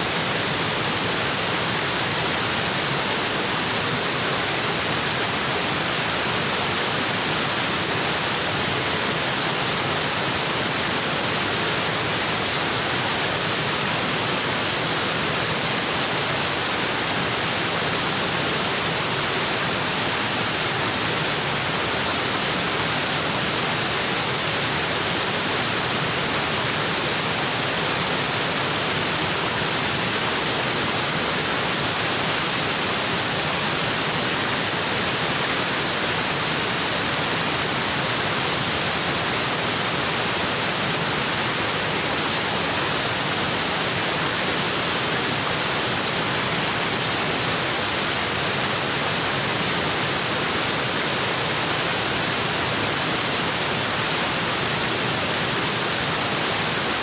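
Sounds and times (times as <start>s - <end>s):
waterfall onto rocks: 0.0s - 57.0s.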